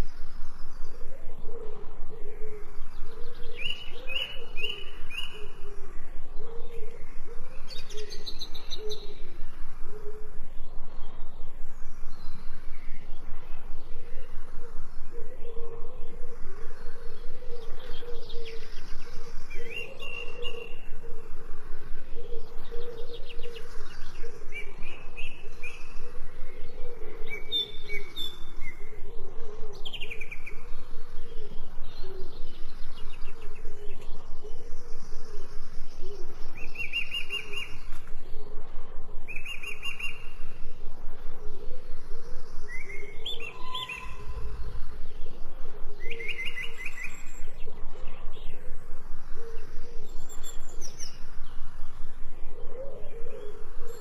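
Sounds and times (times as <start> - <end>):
birds chirping and singing: 0.0 - 54.0
low pulsing background: 0.0 - 54.0.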